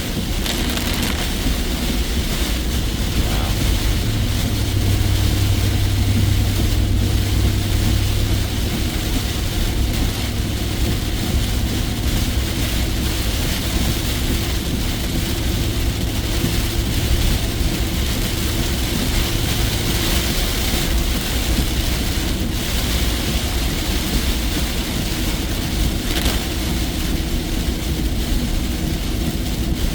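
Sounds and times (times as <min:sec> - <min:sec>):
rain hitting roof and windshield: 0:00.0 - 0:29.9
truck engine and road noise: 0:00.0 - 0:29.9.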